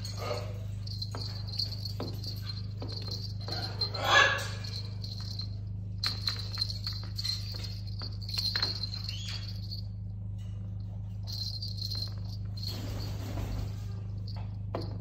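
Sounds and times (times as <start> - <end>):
high thin jingling: 0.0 - 15.0
steady low hum: 0.0 - 15.0.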